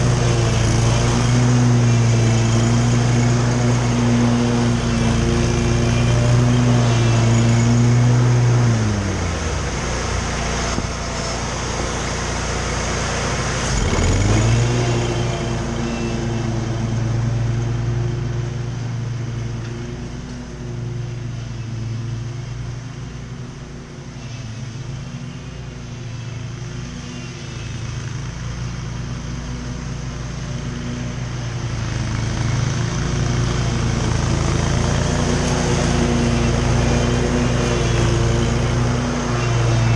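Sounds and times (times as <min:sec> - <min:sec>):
lawn mower engine under load: 0:00.0 - 0:39.9.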